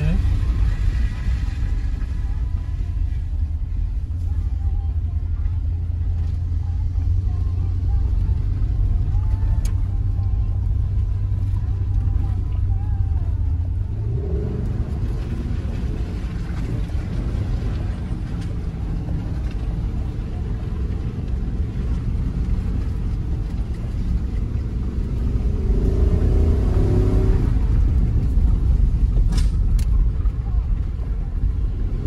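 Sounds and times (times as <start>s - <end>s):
car engine and tyres: 0.0s - 32.0s.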